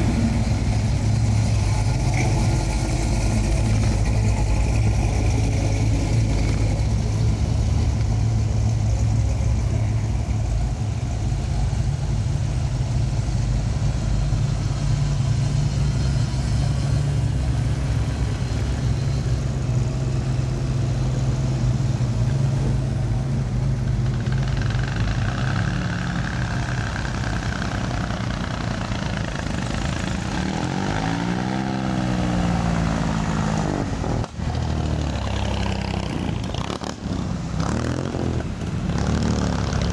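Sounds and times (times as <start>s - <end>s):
cars driving past slowly: 0.0s - 39.9s.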